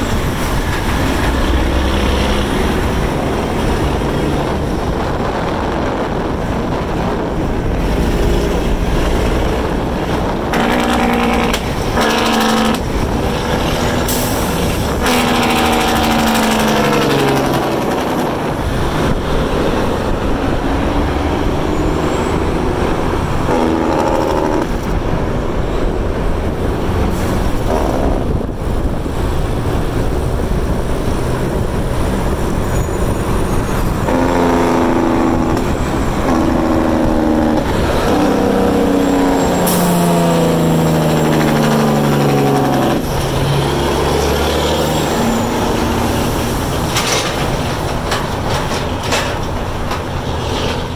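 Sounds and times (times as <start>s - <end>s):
diesel truck engine rumble: 0.0s - 50.9s.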